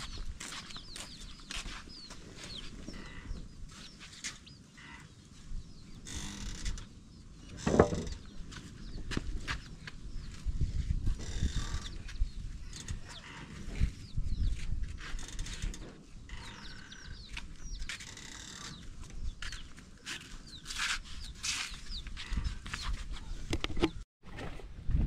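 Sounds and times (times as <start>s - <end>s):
wind rumble on microphone: 0.0s - 4.0s, 4.6s - 25.0s
birds chirping: 0.0s - 24.0s.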